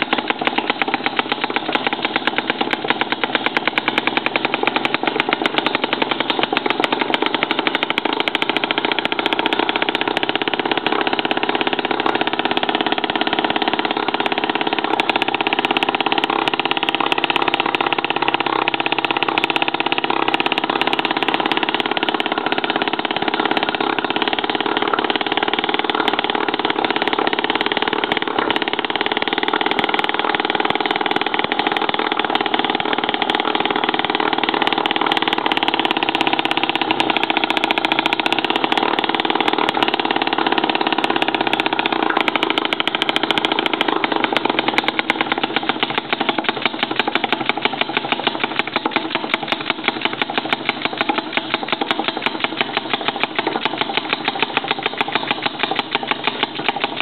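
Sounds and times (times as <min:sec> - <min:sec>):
two-stroke model engine running: 0:00.0 - 0:57.0.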